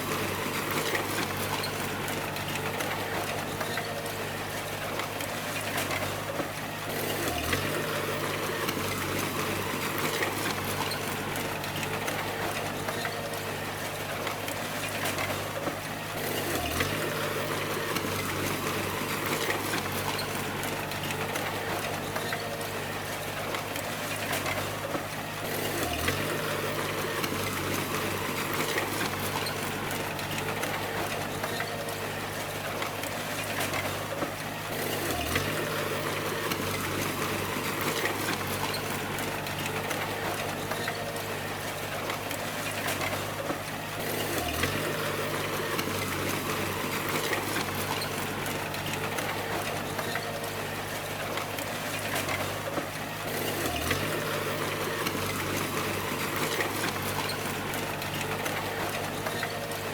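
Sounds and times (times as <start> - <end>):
bulldozer diesel engine: 0.0 - 59.9
tracks and machinery clattering: 0.0 - 59.9.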